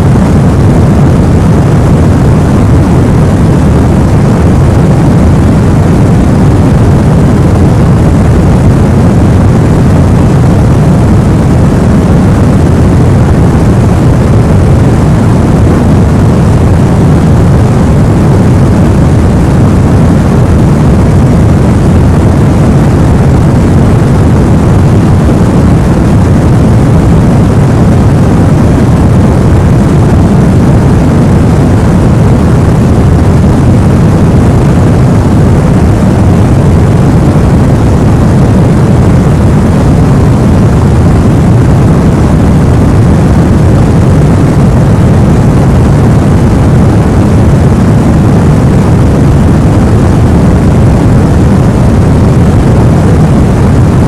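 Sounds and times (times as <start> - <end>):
deep white noise: 0.0 - 54.0.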